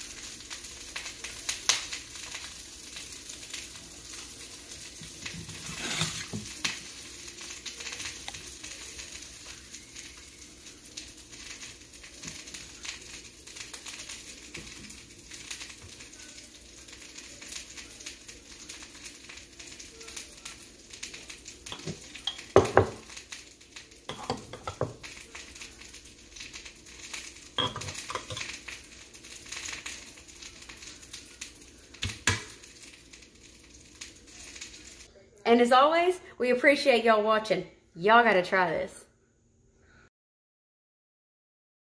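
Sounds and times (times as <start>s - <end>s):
burger patties sizzling in skillet: 0.0s - 35.1s.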